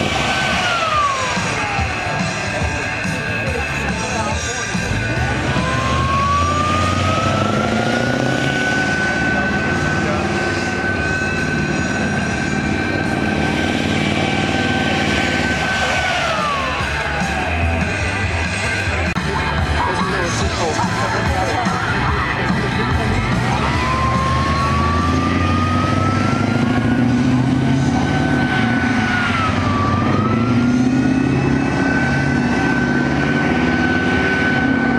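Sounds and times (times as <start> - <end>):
diesel engine with high whine: 0.0 - 34.9
tracks rumbling and clattering: 0.0 - 34.9.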